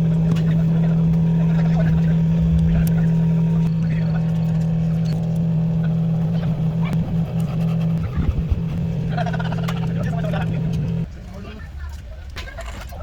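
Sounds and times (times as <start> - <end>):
low machine hum: 0.0 - 11.1.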